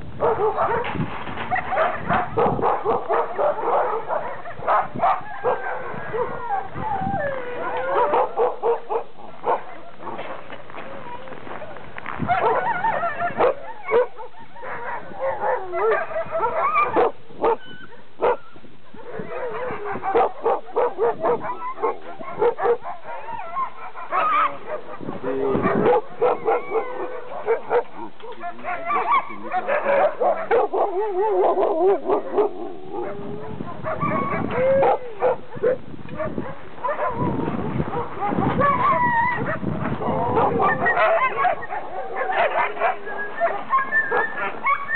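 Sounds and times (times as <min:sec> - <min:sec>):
dogs barking and yipping: 0:00.1 - 0:44.9
dogs howling: 0:01.5 - 0:44.9.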